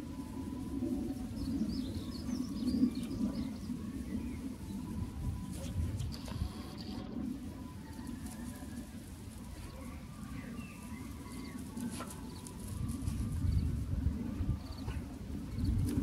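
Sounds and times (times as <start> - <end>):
steady low rumble: 0.0 - 16.0
birds chirping: 0.1 - 16.0.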